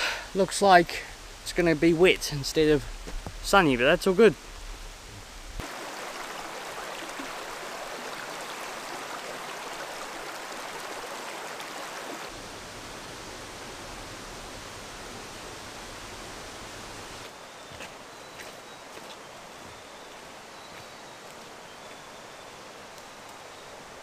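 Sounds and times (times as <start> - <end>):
stream rushing over boulders: 0.0 - 24.0.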